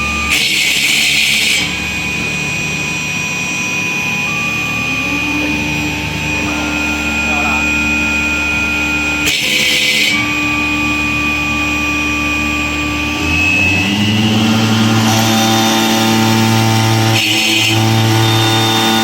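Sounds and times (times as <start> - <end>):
motor spinning up whine: 0.0 - 19.0
stone cutting machine hum: 0.0 - 19.0.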